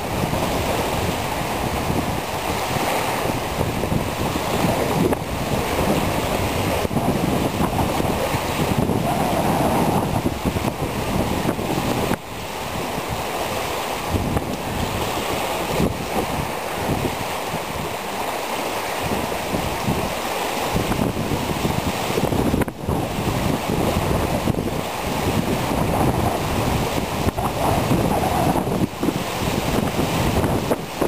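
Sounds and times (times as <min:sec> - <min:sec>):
water lapping at shore: 0:00.0 - 0:31.0
wind gusting over microphone: 0:00.0 - 0:31.0.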